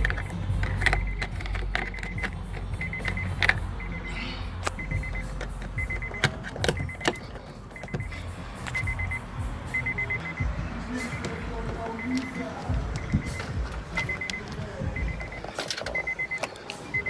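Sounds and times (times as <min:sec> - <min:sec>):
steady low hum: 0:00.0 - 0:16.3
car warning chime beeping: 0:00.0 - 0:17.0.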